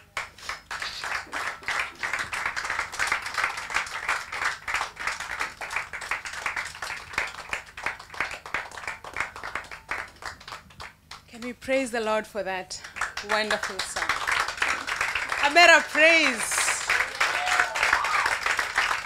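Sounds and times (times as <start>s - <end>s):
people clapping: 0.0s - 11.6s, 12.8s - 19.0s.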